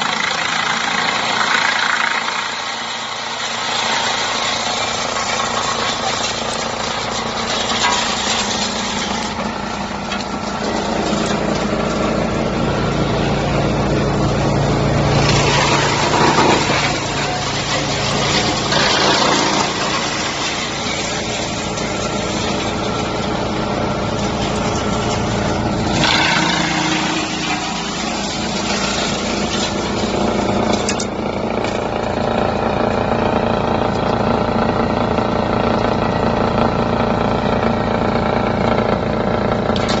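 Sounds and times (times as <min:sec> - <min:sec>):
wood chipper droning: 0:00.0 - 0:40.0.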